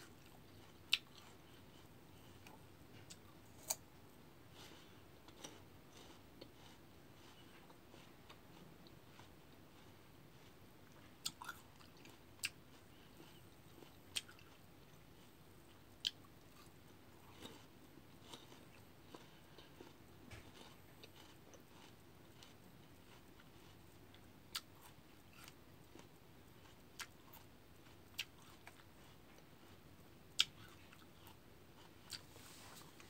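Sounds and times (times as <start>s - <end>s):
chewing crisp fruit: 0.0s - 33.0s.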